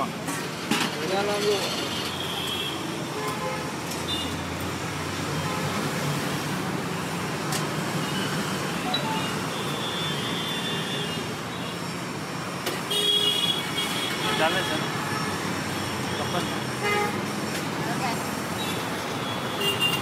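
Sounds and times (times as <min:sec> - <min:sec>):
roadside traffic passing: 0:00.0 - 0:20.0.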